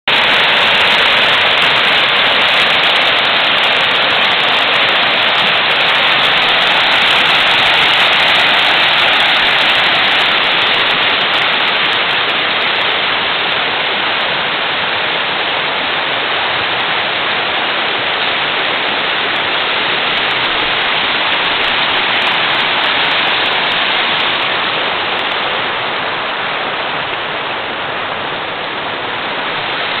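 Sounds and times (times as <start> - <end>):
water rushing over boulders: 0.0 - 30.0.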